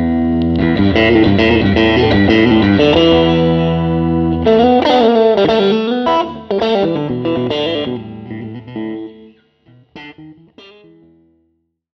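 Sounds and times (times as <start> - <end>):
electric guitar picked notes: 0.0 - 11.5.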